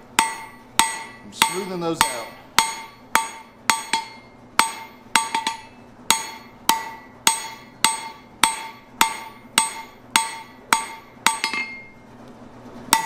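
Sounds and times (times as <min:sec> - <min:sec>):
hammer striking steel on anvil: 0:00.1 - 0:12.0.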